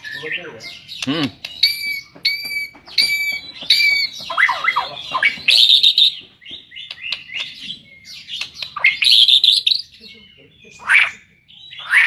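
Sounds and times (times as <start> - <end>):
songbird singing varied song: 0.0 - 12.0.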